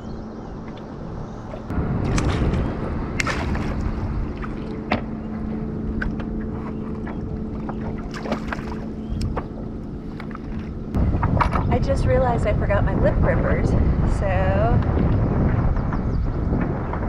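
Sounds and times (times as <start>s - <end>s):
steady low hum: 0.0s - 17.0s
water around kayak: 0.0s - 17.0s
wind: 0.0s - 17.0s.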